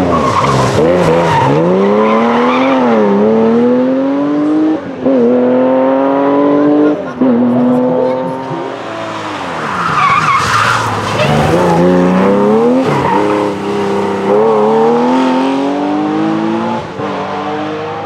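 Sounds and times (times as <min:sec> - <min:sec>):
rally car engines at full throttle: 0:00.0 - 0:18.0.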